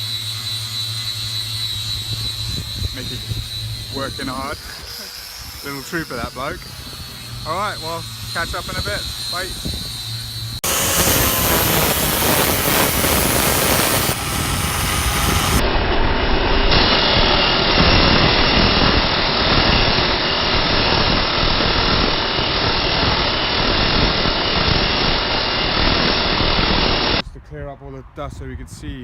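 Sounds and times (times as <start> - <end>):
angle grinder sanding wood: 0.0 - 15.7, 16.7 - 27.2.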